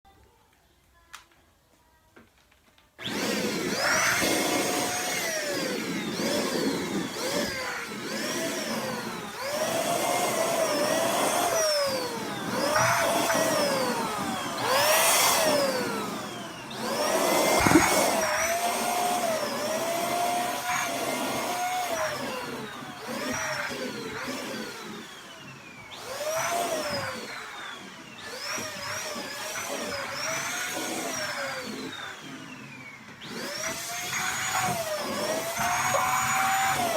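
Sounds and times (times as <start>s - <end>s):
vacuum cleaner motor whine: 3.0s - 36.9s.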